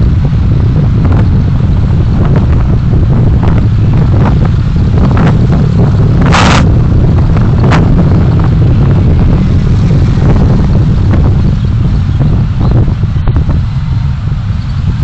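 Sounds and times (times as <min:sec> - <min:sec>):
low road and wind rumble: 0:00.0 - 0:15.0.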